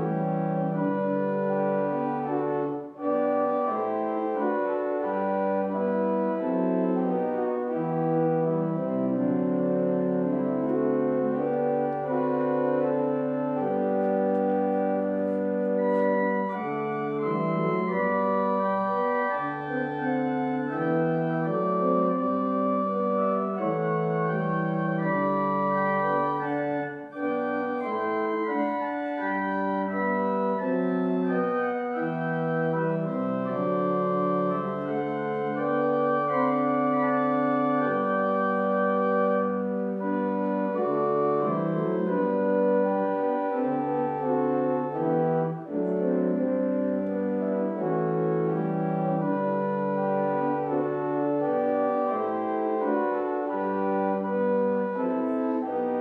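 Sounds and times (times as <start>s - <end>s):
organ playing hymn chords: 0.0s - 56.0s.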